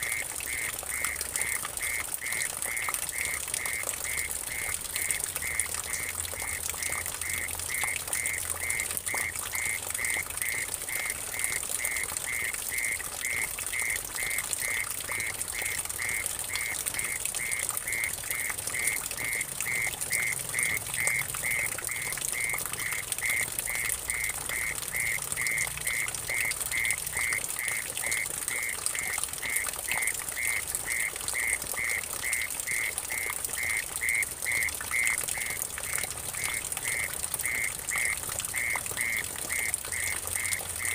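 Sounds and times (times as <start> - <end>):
water trickling into puddle: 0.0 - 40.9.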